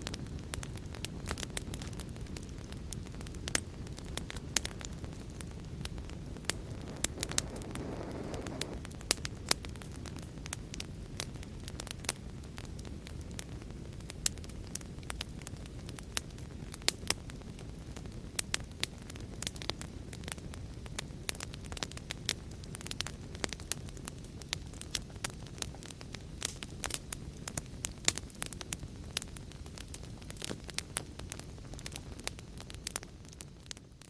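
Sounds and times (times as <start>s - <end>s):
fireplace fire crackling: 0.0s - 34.0s.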